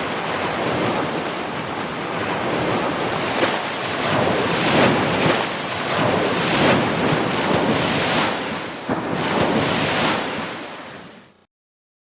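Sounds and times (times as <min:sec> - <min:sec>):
wind buffeting microphone: 0:00.0 - 0:10.6
ocean surf washing: 0:00.0 - 0:11.4.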